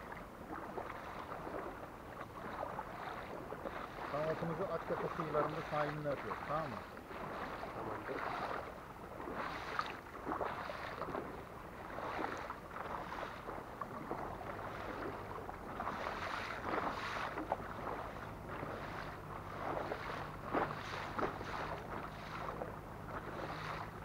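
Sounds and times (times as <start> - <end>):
kayak paddle splashing: 0.0 - 24.0
low steady hum: 0.0 - 24.0.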